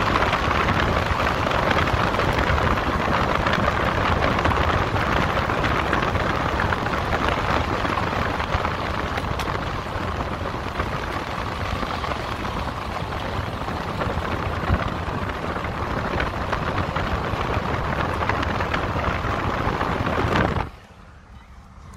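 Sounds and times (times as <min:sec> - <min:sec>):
wind on microphone: 0:00.0 - 0:20.8
tyres rolling on gravel: 0:00.0 - 0:21.0.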